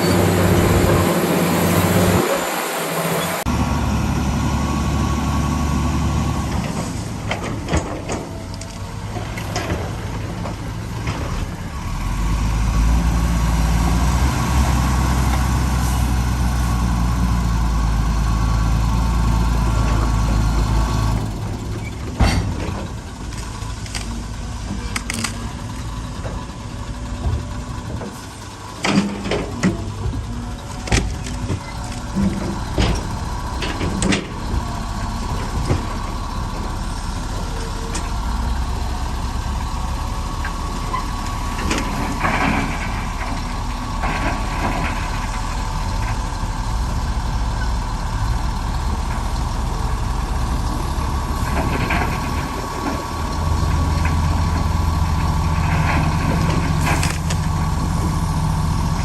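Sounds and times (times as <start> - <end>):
bulldozer diesel engine rumbling: 0.0 - 59.0
steady engine whine: 0.0 - 59.0.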